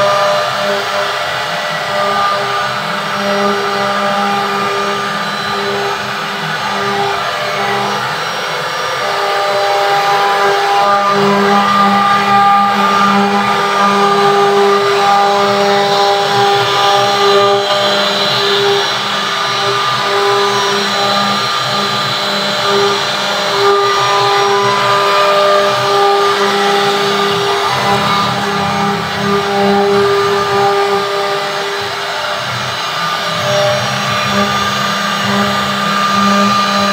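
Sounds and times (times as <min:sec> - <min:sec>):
router motor whine: 0:00.0 - 0:36.9.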